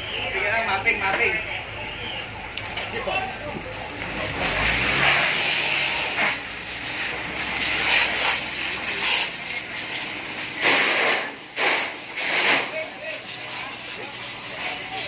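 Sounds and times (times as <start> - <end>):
fire hose spraying water: 1.7 - 15.0.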